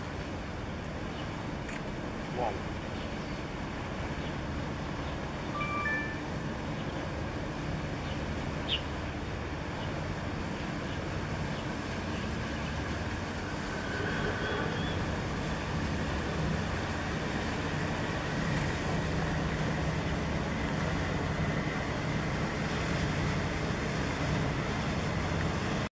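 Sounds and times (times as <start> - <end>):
ship passing drone and rush: 0.0 - 25.9.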